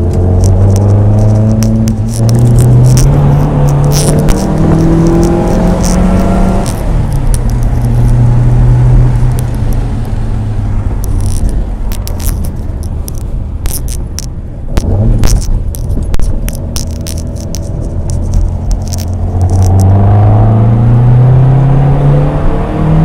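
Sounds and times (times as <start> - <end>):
car engine running: 0.0 - 21.3.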